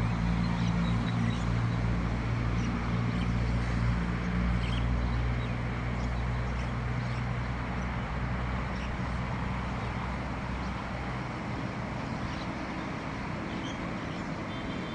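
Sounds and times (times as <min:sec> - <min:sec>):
low engine-like hum: 0:00.0 - 0:14.9.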